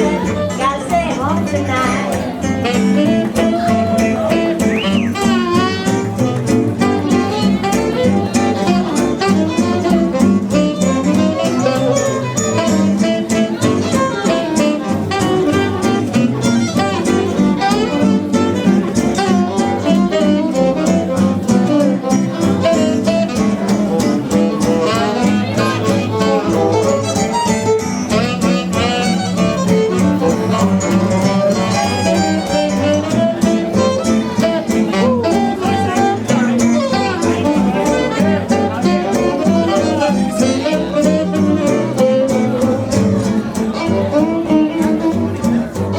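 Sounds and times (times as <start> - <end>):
swing jazz band playing: 0.0 - 45.9
violin lead: 0.0 - 45.9.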